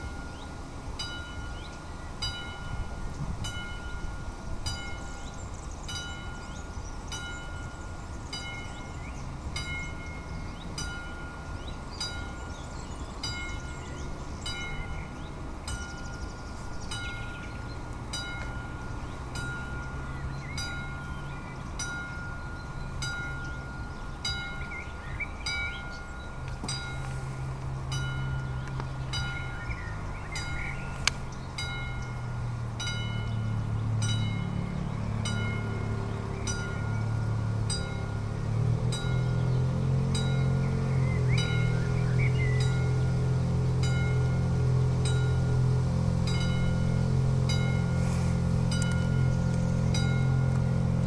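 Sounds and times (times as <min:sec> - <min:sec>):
level crossing warning bell dinging: 0:00.0 - 0:12.5, 0:13.2 - 0:27.1, 0:27.9 - 0:29.8, 0:31.6 - 0:40.7, 0:41.4 - 0:42.0, 0:42.6 - 0:48.0, 0:48.6 - 0:51.0
low drone: 0:00.0 - 0:51.0.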